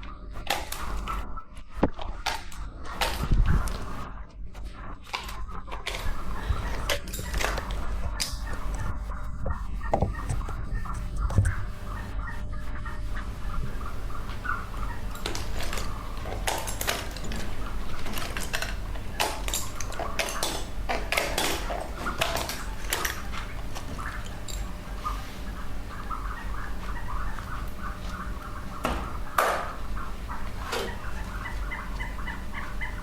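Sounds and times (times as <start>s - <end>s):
chick peeping: 0.0s - 33.0s
steady low hum: 0.0s - 33.0s.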